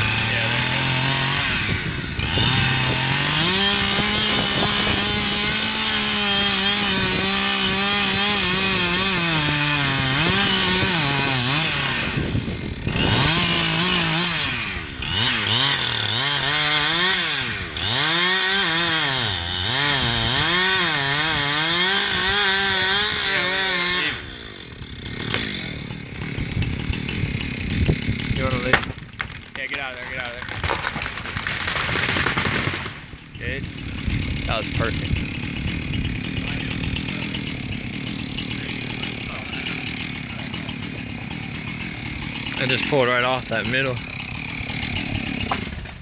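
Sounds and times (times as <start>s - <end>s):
chainsaw cutting through wood: 0.0s - 46.0s.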